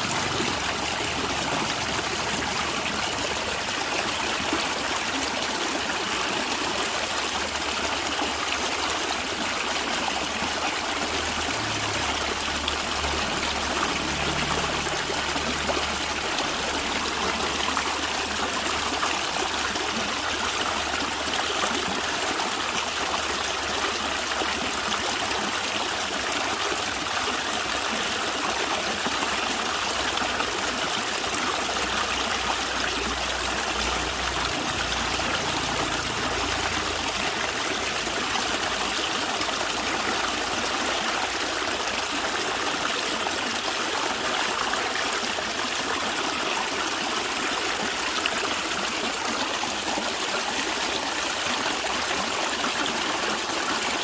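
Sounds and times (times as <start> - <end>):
stream gurgling over rocks: 0.0 - 54.0.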